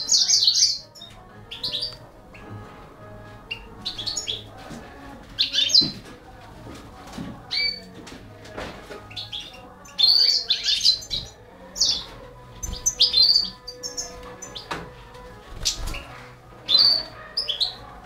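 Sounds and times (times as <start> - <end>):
baby birds chirping: 0.0 - 2.7, 3.4 - 6.5, 7.1 - 8.1, 8.9 - 18.0.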